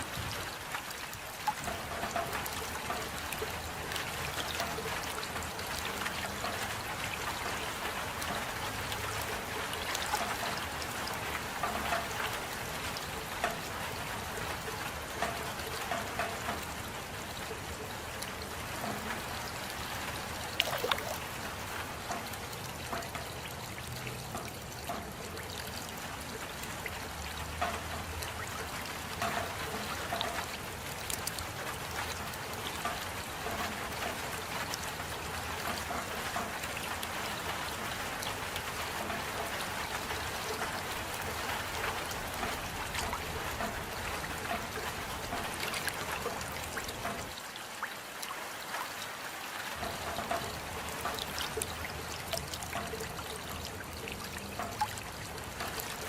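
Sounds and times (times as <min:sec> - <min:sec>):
steady rain: 0:00.0 - 0:56.0
water trickling: 0:00.0 - 0:56.0.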